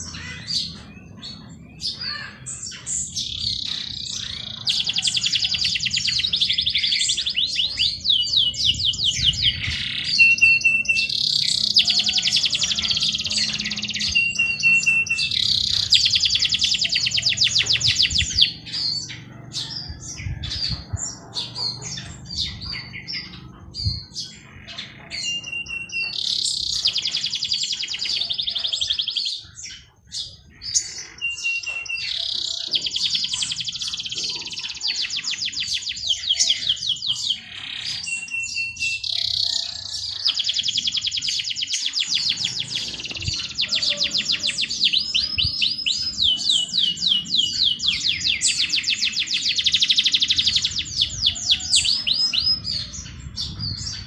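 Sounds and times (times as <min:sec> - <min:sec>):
songbird trilling: 0:00.0 - 0:54.0.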